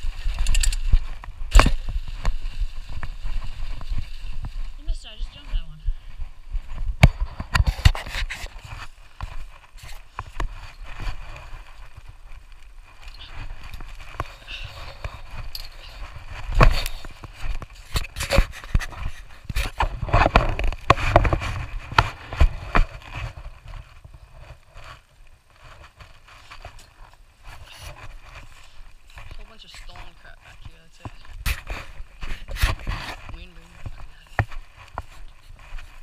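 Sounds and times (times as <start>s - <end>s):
knocks and scrapes of gear: 0.0s - 5.5s, 6.5s - 36.0s
rustling: 0.0s - 36.0s.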